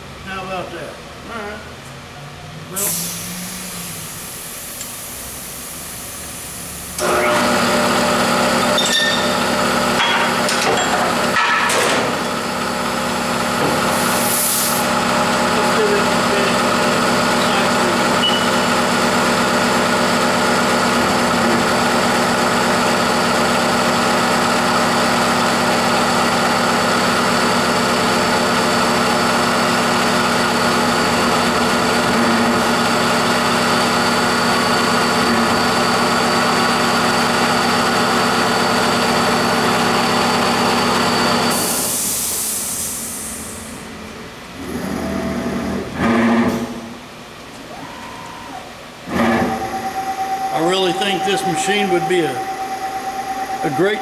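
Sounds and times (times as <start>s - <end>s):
milling machine motors whining: 5.9s - 14.3s, 14.9s - 46.5s, 47.4s - 54.0s.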